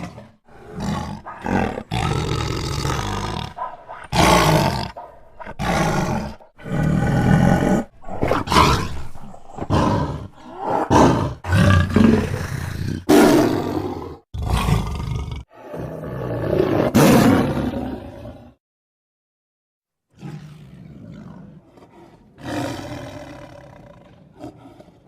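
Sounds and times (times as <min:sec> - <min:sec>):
lion roars and growls: 0:00.0 - 0:18.6, 0:20.2 - 0:25.0.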